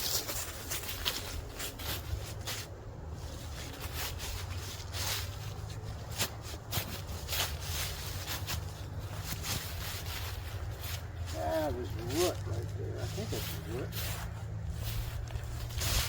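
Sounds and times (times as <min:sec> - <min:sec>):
footsteps crunching on forest floor: 0:00.0 - 0:16.0
low steady rumble: 0:00.0 - 0:16.0.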